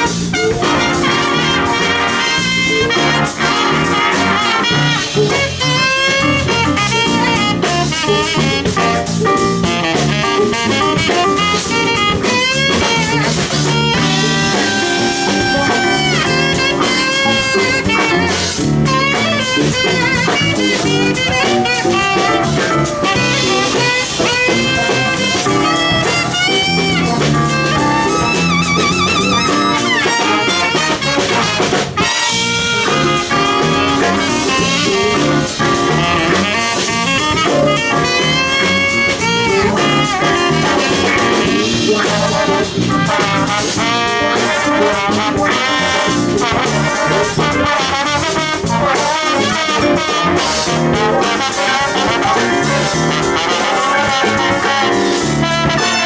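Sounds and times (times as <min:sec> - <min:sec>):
big band playing funk jazz: 0:00.0 - 0:56.0.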